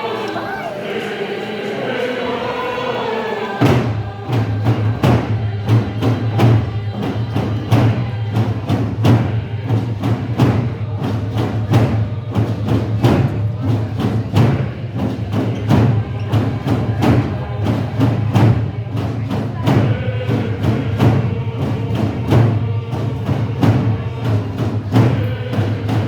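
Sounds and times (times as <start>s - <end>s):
group singing: 0.0s - 26.0s
hand drums beating: 3.6s - 26.0s.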